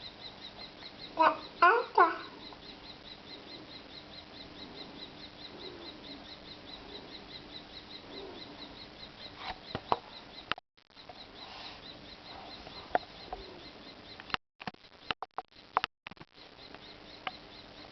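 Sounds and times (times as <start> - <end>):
birds calling softly: 0.0 - 14.4, 16.3 - 17.9.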